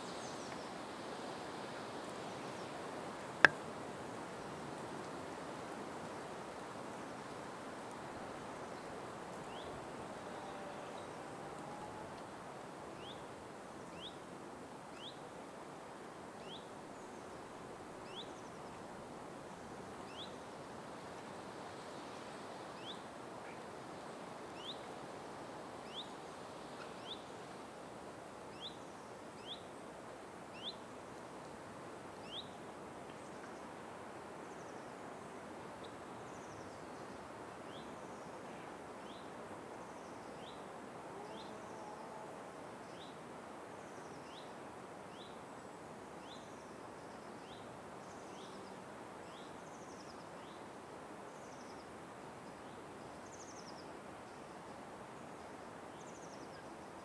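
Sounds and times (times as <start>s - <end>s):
outdoor ambient hiss: 0.0s - 57.0s.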